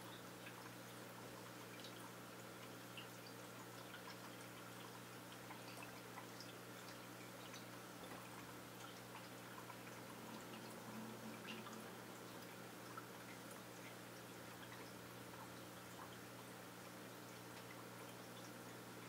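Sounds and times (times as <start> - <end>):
faint low hum: 0.0 - 19.0
soft ticks and drips: 0.0 - 19.0.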